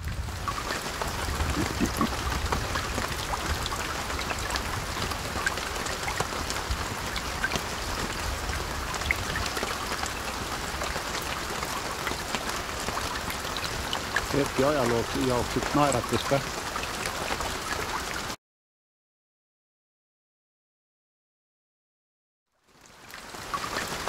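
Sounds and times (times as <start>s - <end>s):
light rain on tarmac: 0.0s - 18.4s, 22.5s - 24.0s.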